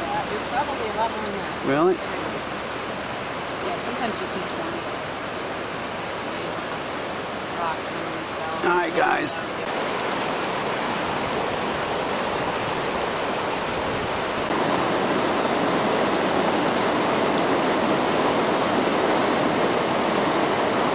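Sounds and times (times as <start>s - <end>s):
river rapids rushing: 0.0s - 20.9s.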